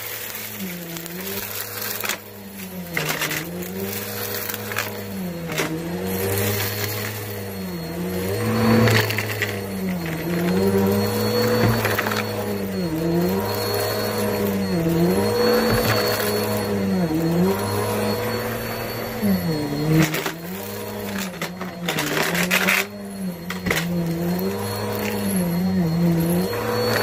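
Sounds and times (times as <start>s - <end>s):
vacuum cleaner motor hum: 0.0s - 27.0s.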